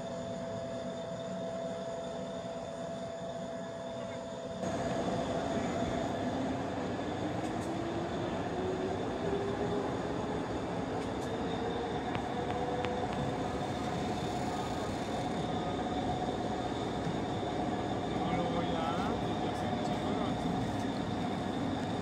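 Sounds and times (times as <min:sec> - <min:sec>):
steady whine: 0:00.0 - 0:22.0
train rolling along track: 0:00.0 - 0:22.0.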